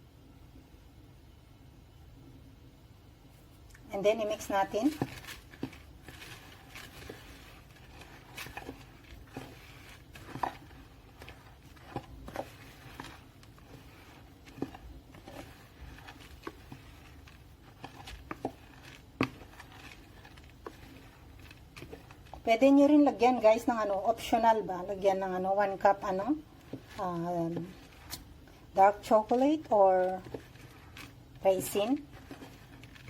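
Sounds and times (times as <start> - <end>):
utensil stirring dry ingredients: 3.5 - 33.0.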